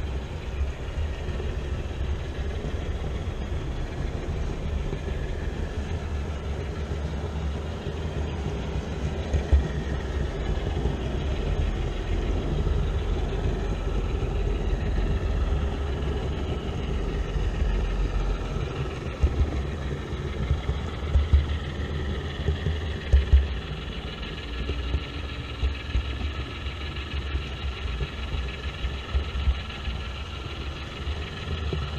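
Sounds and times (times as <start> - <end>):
model train motor drone: 0.0 - 31.9
model train wheels rolling on rails: 0.0 - 31.9.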